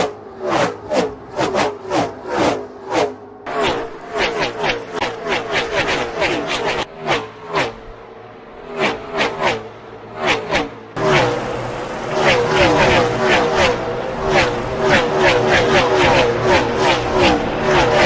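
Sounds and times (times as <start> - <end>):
race cars passing at speed: 0.0 - 18.0.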